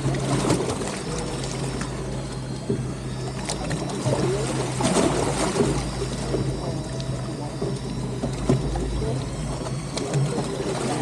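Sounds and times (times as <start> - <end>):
boat engine running: 0.0 - 11.0
water wash: 0.0 - 11.0.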